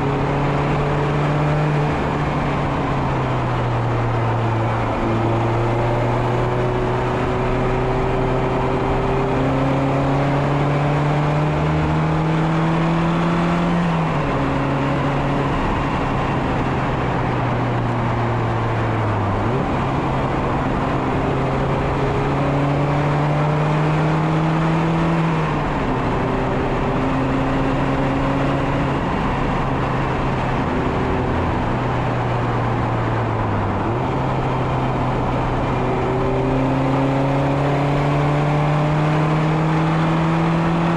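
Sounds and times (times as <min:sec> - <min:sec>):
car engine revving under load: 0:00.0 - 0:40.9
wind and road noise: 0:00.0 - 0:40.9.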